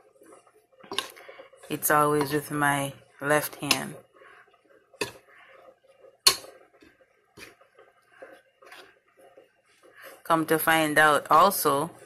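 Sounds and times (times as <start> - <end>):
spoon stirring stiff dough: 0.0 - 12.0.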